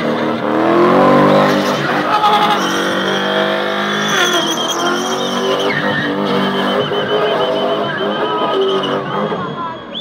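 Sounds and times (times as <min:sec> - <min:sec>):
car engine revving high: 0:00.0 - 0:09.6
tyres squealing on tarmac: 0:01.3 - 0:10.0.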